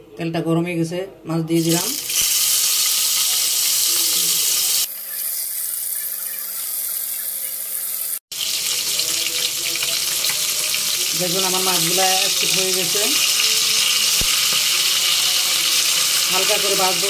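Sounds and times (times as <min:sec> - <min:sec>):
fish sizzling in hot oil: 0:01.6 - 0:17.0.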